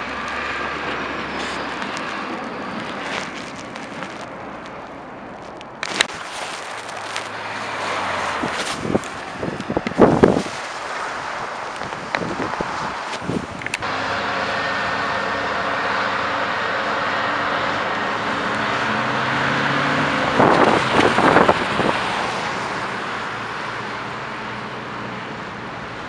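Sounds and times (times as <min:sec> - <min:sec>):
heavy diesel engines passing: 0:00.0 - 0:26.0.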